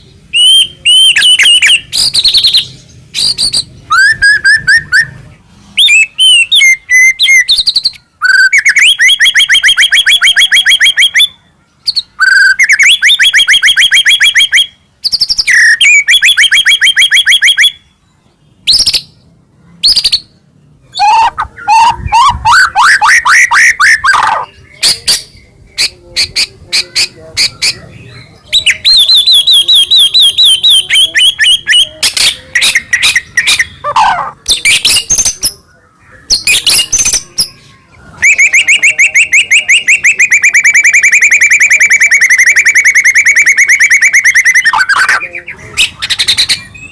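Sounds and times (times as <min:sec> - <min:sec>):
bird singing fast repeated notes: 0:00.0 - 0:46.9.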